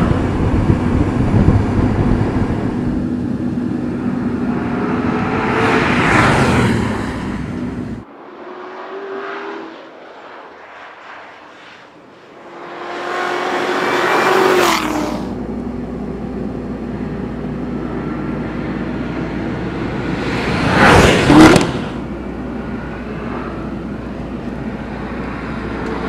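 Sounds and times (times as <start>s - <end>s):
sports car engine passing by: 1.9s - 26.0s.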